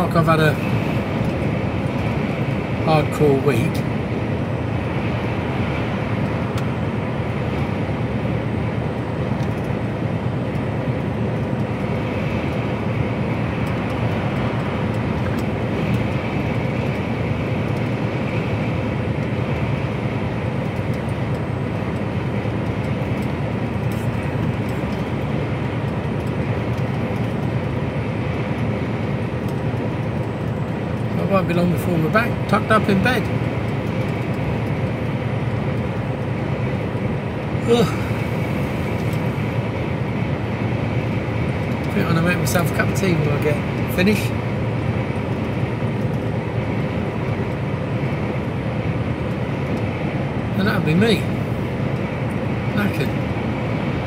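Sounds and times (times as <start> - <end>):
lorry engine and tyre noise: 0.0 - 54.0.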